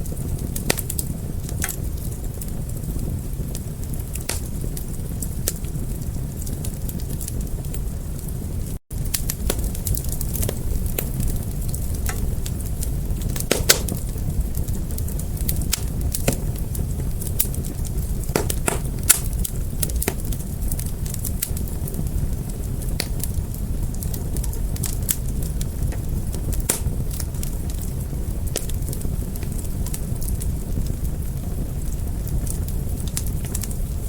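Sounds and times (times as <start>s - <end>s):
wood fire burning and crackling: 0.0s - 34.0s.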